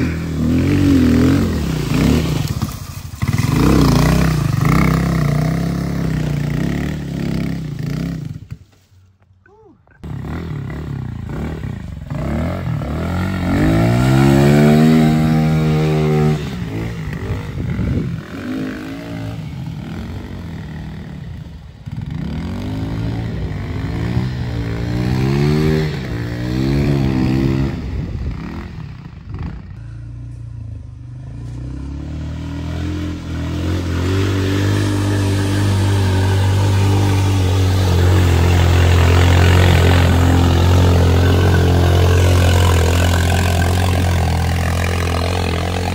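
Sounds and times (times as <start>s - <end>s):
atv engines revving: 0.0s - 8.6s, 10.0s - 45.9s.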